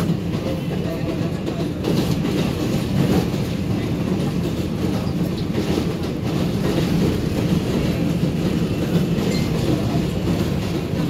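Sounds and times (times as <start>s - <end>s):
subway car running on rails: 0.0s - 11.0s.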